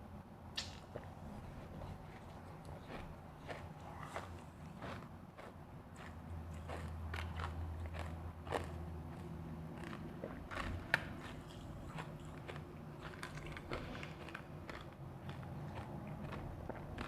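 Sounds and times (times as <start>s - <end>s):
ice being chewed crunching: 1.0s - 17.0s.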